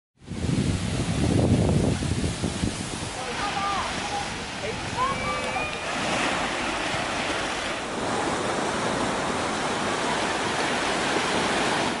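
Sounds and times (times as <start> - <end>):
waves breaking on beach: 0.3 - 12.0.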